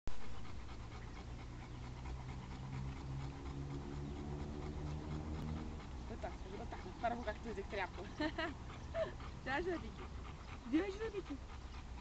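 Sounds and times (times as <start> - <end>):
dog panting with throaty rasp: 0.1 - 12.0.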